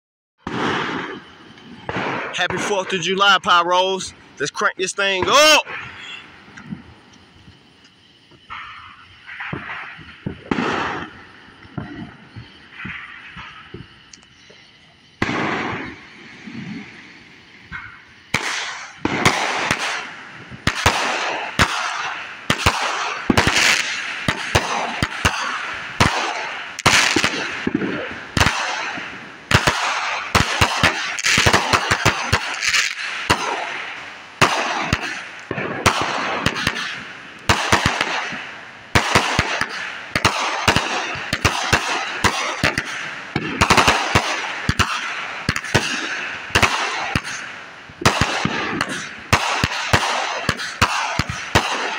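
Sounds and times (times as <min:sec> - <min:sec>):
crackling bursts in the air: 0:00.4 - 0:51.9
fireworks bangs: 0:00.4 - 0:51.9.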